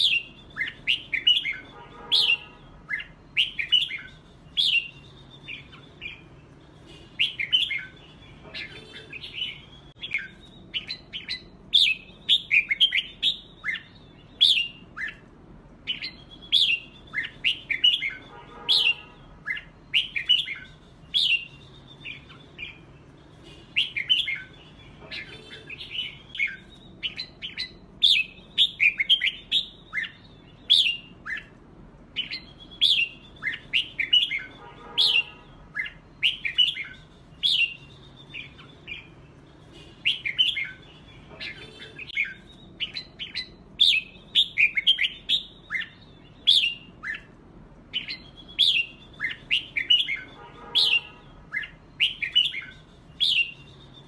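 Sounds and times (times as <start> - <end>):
birds singing whistled phrases: 0.0 - 54.0.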